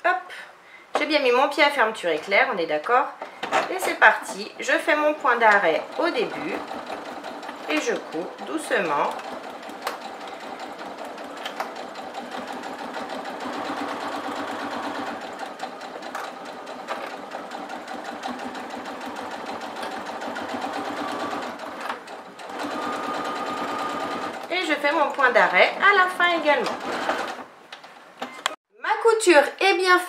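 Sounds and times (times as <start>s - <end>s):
sewing machine stitching: 3.4s - 27.5s.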